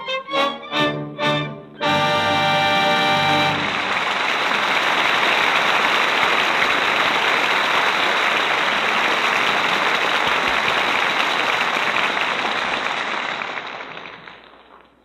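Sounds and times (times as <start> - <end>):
studio audience applauding: 2.7 - 14.9.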